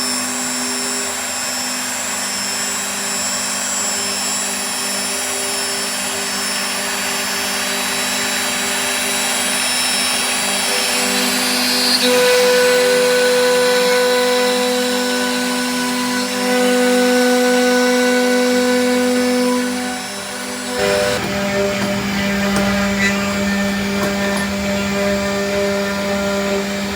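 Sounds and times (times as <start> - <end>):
router spindle cutting wood: 0.0 - 26.9.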